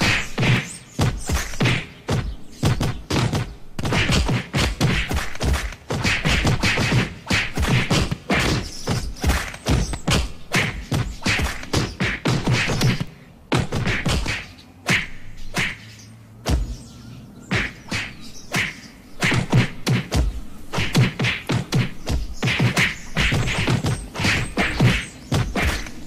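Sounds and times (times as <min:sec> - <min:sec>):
cartoon punch thumps: 0:00.0 - 0:15.8, 0:16.5 - 0:16.8, 0:17.5 - 0:26.0.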